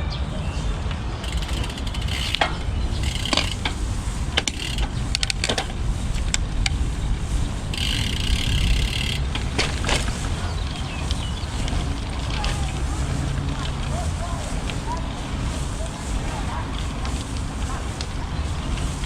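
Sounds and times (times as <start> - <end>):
low riding rumble: 0.0 - 19.0
bicycle freewheel ticking: 1.2 - 19.0.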